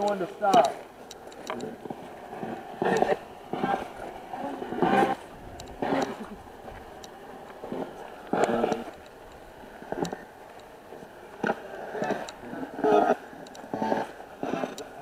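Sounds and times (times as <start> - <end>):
faint clicks: 0.0 - 4.1, 4.8 - 15.0.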